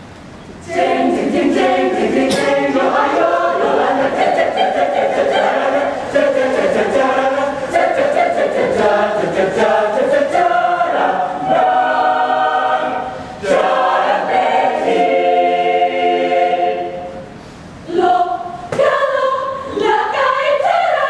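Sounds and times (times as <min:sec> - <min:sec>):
mixed choir singing a cappella: 0:00.6 - 0:21.0.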